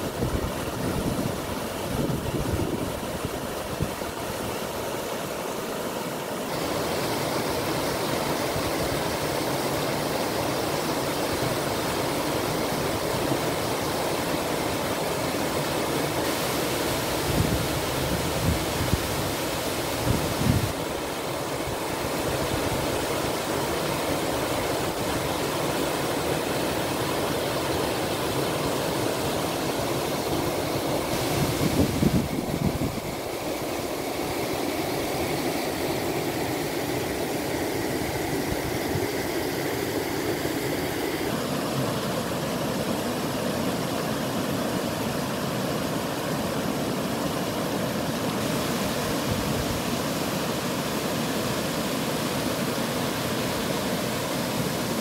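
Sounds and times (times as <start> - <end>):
waterfall rushing over rock: 0.0 - 55.0.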